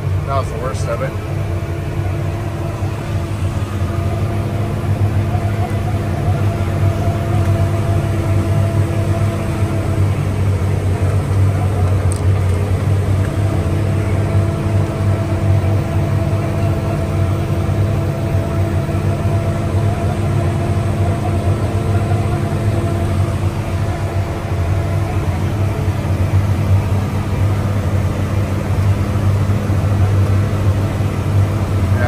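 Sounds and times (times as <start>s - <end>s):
engine low hum: 0.0s - 32.0s.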